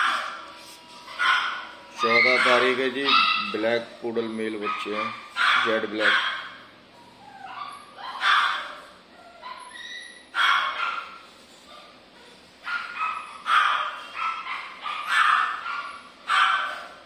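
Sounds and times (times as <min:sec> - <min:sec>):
puppies yapping: 0:00.0 - 0:17.0.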